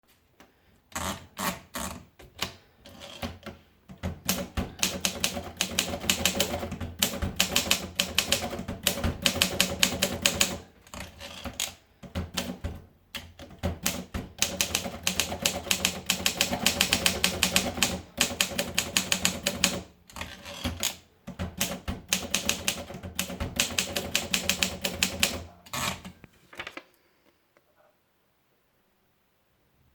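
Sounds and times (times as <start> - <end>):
manual typewriter typing: 1.0 - 26.8.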